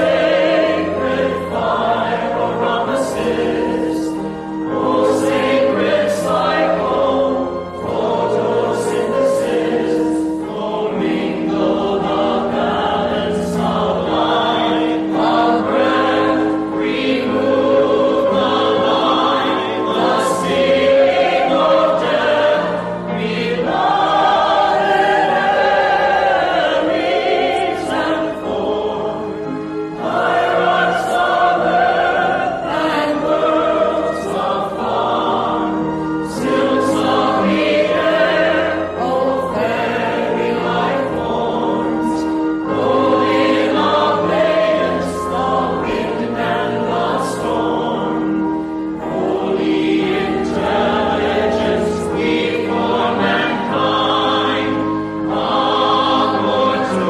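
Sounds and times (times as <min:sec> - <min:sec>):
choir singing a slow hymn: 0:00.0 - 0:57.0.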